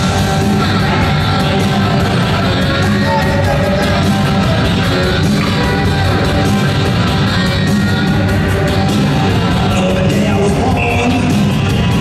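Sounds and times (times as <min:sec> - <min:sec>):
rock music over loudspeakers: 0:00.0 - 0:12.0.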